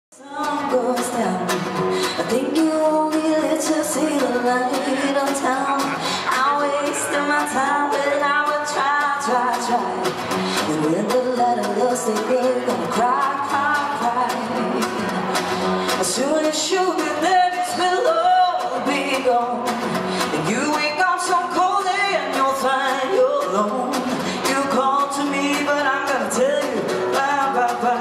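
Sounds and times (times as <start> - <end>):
acoustic guitars: 0.2 - 28.0.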